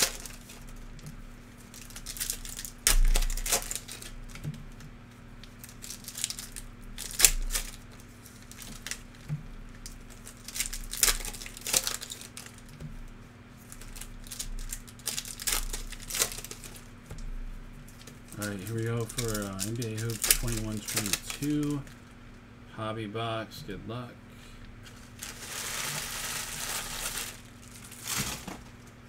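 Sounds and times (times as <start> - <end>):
plastic wrapping crinkling: 0.0 - 22.2, 24.8 - 29.0.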